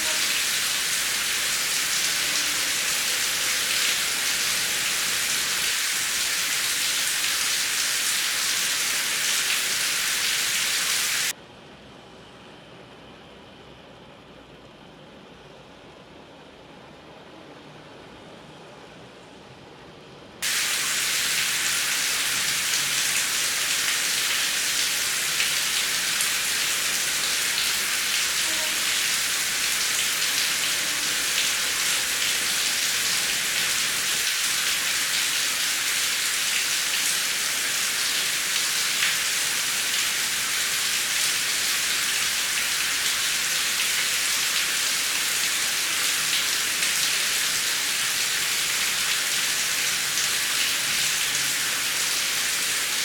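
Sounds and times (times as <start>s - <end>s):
heavy rain: 0.0s - 11.4s, 20.4s - 53.0s.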